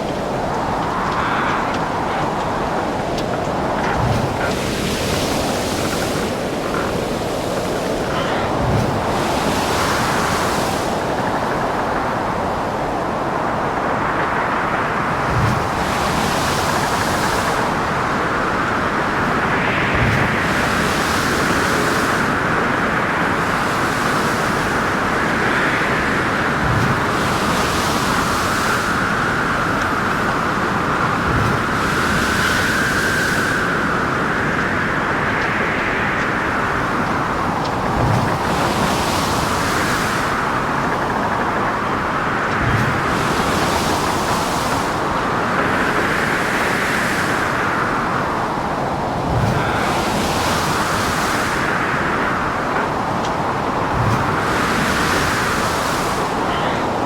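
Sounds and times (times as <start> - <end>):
heavy waves breaking: 0.0 - 57.0
howling wind: 0.0 - 57.0.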